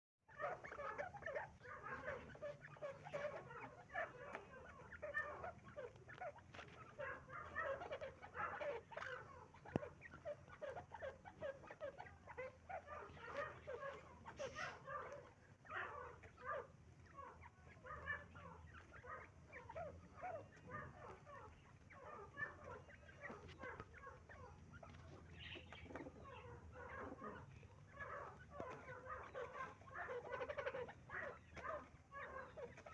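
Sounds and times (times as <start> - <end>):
partridges calling: 0.3 - 32.9.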